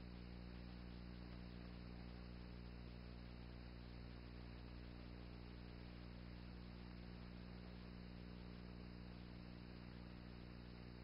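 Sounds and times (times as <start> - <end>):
low electrical hum with hiss: 0.0 - 11.0.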